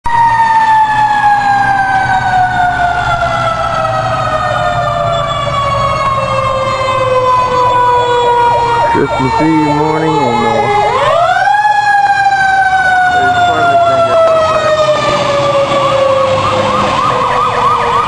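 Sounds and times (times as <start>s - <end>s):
faint wavering siren: 0.1s - 18.0s
fire siren winding down: 0.1s - 18.0s.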